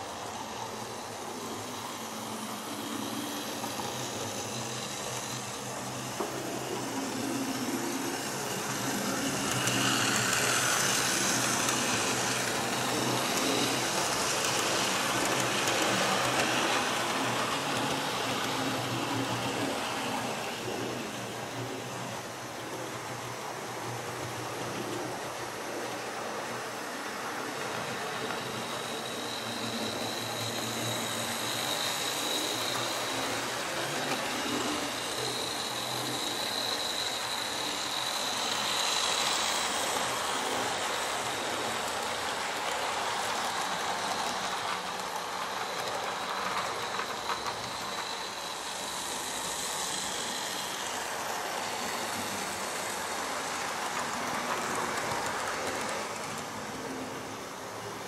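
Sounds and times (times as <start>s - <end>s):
model train wheel rumble: 0.0s - 57.9s.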